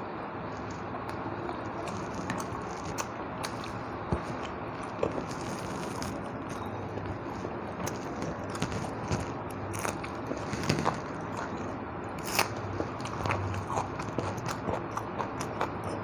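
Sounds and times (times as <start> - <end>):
person chewing food: 0.5 - 16.0.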